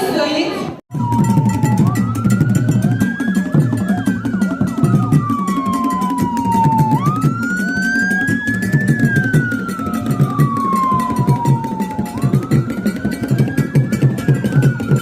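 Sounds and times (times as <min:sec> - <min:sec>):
music with low beat: 0:00.9 - 0:15.0
siren wailing: 0:00.9 - 0:15.0.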